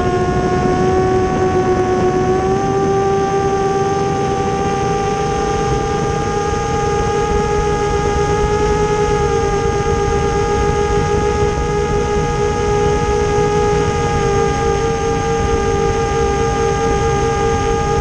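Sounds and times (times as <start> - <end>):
drone propellers whining: 0.0 - 18.0
wind rushing over microphone: 0.0 - 18.0.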